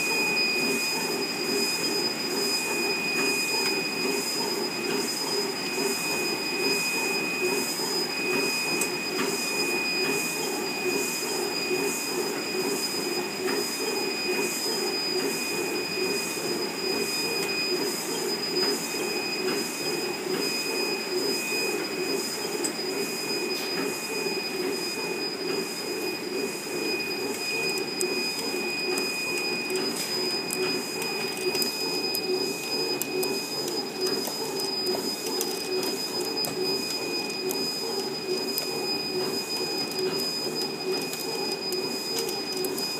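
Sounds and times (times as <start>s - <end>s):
high-pitched machine whines: 0.0s - 42.9s.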